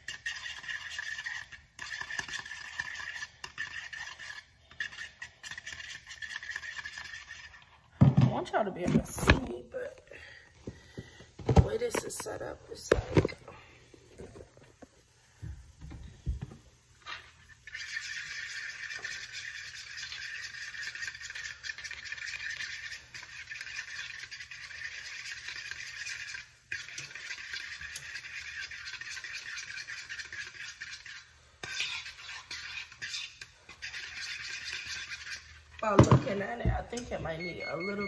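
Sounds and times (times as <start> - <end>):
fork whisking eggs in a bowl: 0.0 - 9.6, 16.8 - 38.0.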